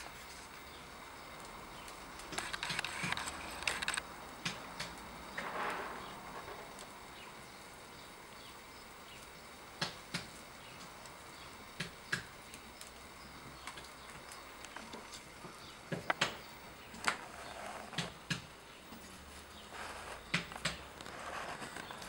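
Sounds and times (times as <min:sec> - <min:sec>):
broth boiling: 0:00.0 - 0:22.0
wood fire hissing and crackling: 0:00.0 - 0:22.0.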